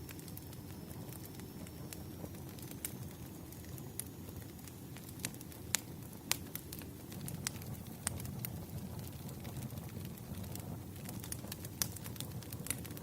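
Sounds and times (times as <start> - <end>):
bonfire crackling: 0.0 - 13.0
fire popping and snapping: 0.0 - 13.0.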